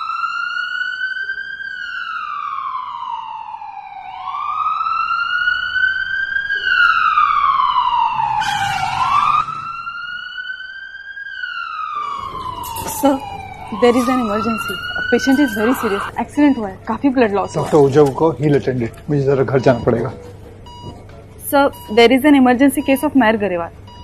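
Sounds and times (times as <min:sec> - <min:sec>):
ambulance siren wailing: 0:00.0 - 0:20.9.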